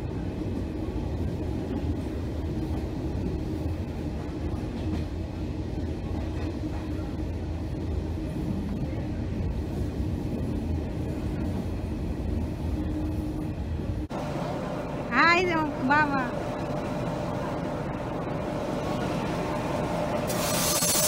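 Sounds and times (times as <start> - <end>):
train coach rumbling on track: 0.0 - 20.4.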